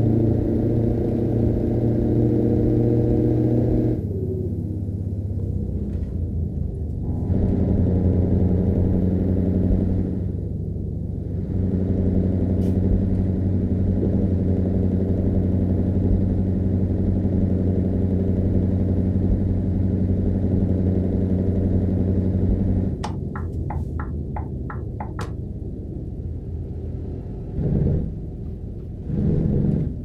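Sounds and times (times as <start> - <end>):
truck engine running: 4.0 - 29.7.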